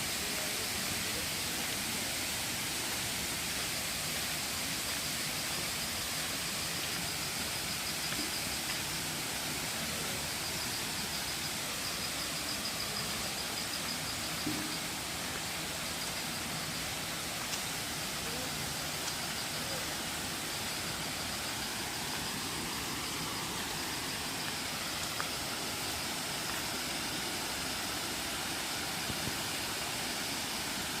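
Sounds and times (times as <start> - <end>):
waterfall roaring: 0.9 - 31.0.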